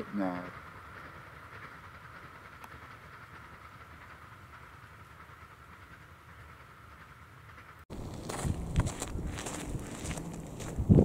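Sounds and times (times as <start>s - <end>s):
train rumbling along track: 0.0s - 11.0s.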